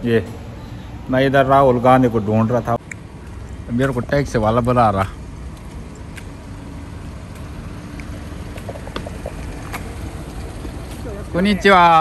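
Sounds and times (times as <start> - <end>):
faint steady drone: 0.0 - 12.0
traffic rumble: 0.0 - 12.0.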